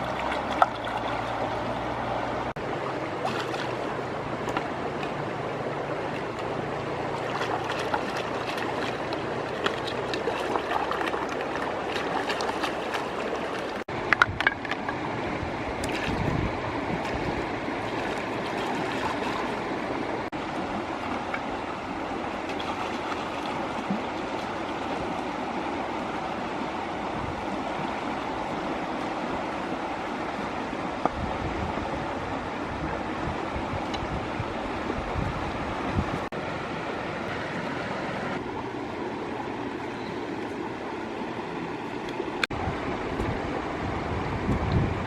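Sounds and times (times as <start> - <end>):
river water flowing: 0.0 - 45.0.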